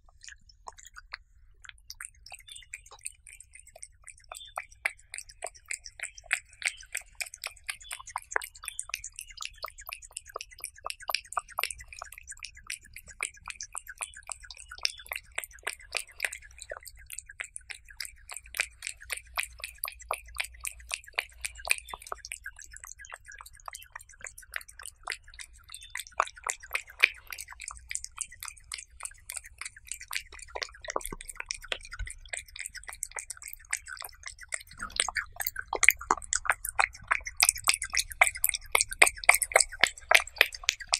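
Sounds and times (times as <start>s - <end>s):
cat chewing and licking: 0.0s - 40.9s.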